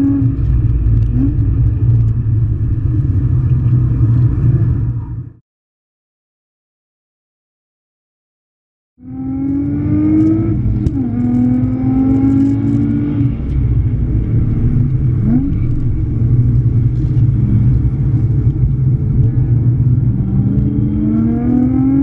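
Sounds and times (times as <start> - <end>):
car engine accelerating: 0.0 - 5.4, 9.0 - 22.0.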